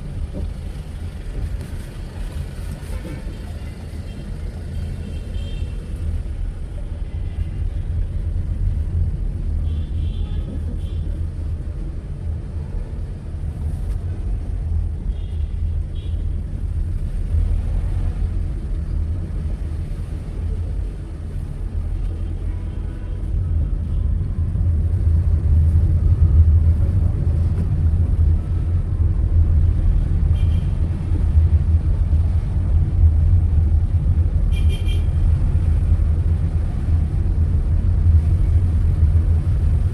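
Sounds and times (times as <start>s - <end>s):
car driving low rumble: 0.0s - 39.9s.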